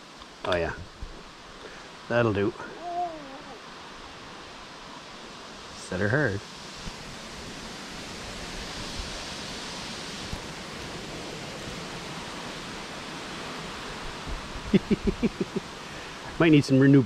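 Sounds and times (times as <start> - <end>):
flowing brook: 0.0 - 17.0.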